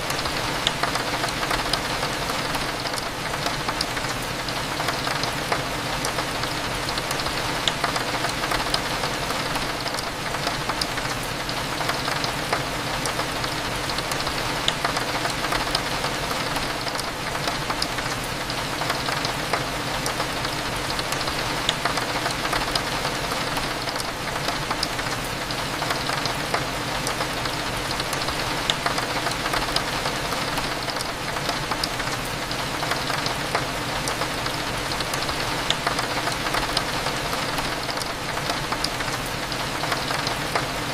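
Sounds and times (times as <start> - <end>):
raindrops hitting a window: 0.0 - 40.9.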